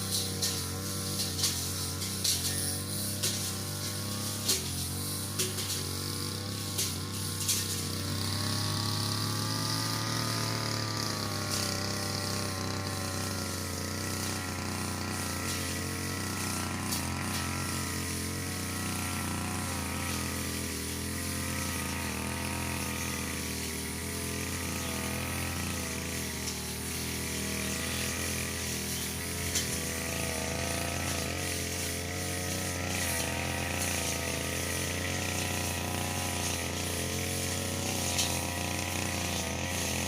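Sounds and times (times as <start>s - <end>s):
brush cutter cutting grass: 0.0s - 40.0s.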